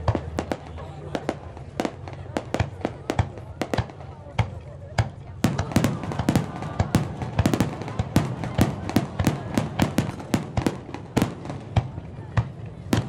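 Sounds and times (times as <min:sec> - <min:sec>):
fireworks bangs: 0:00.0 - 0:13.0
rumble of fireworks bursts: 0:00.0 - 0:13.0.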